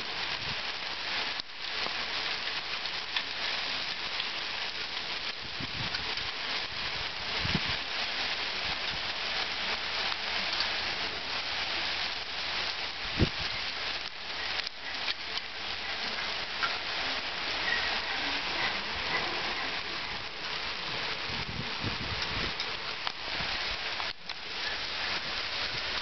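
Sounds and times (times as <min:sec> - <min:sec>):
hail pattering on ground: 0:00.0 - 0:26.0.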